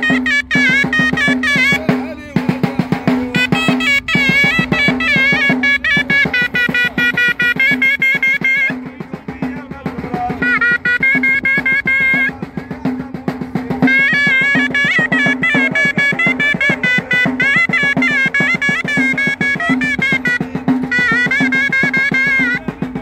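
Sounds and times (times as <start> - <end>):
shawm playing high melody: 0.0 - 23.0.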